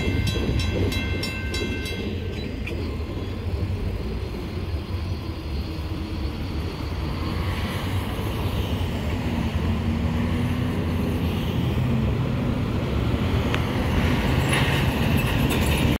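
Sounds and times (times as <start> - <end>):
vehicles crossing railroad tracks: 0.0 - 16.0.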